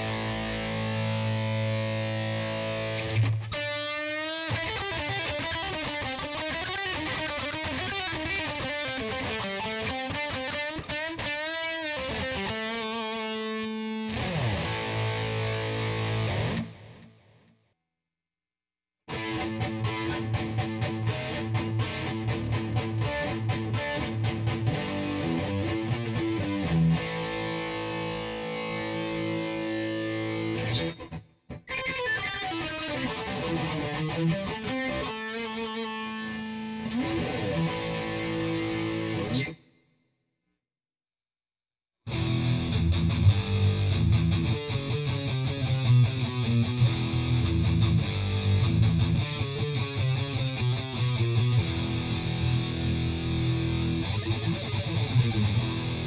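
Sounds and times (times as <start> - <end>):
electric guitar notes: 0.0 - 17.2, 19.1 - 39.6, 42.1 - 56.0.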